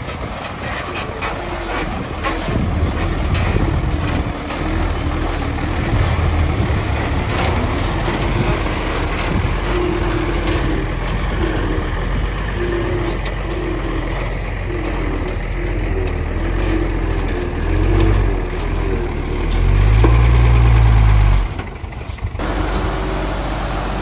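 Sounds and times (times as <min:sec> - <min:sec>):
bulldozer diesel engine rumbling: 0:00.0 - 0:24.0
pulsing higher hum: 0:00.0 - 0:24.0.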